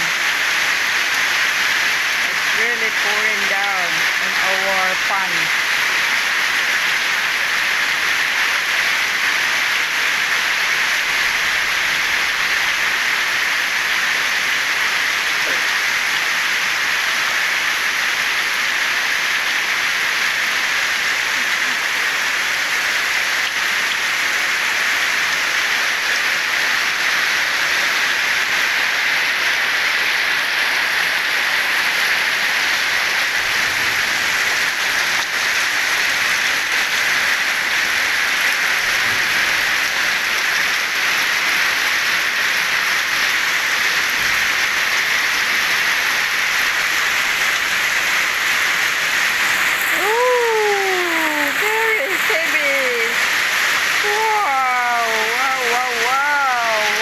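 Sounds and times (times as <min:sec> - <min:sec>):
heavy rain on a pond: 0:00.0 - 0:57.0.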